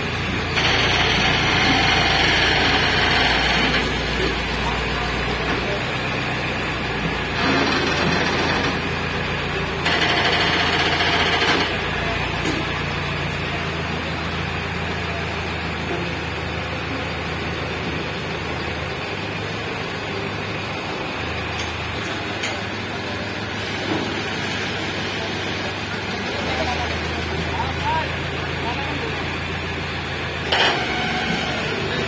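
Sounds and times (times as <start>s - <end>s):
heavy vehicle engine humming: 0.0s - 32.0s.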